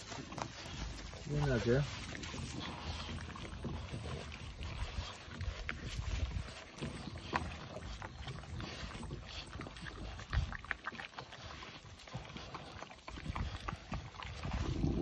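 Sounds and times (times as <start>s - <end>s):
puppies chewing wetly: 0.0s - 15.0s.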